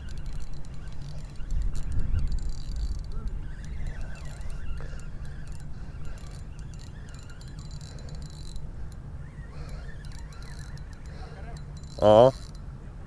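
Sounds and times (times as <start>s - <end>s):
fishing reel clicking: 0.0s - 12.6s
wind rumbling on microphone: 0.0s - 13.0s.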